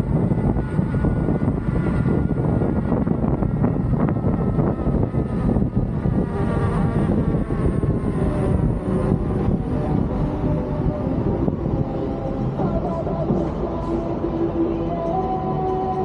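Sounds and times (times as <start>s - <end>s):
electric motor whine: 0.0s - 16.0s
wind rumbling on microphone: 0.0s - 16.0s.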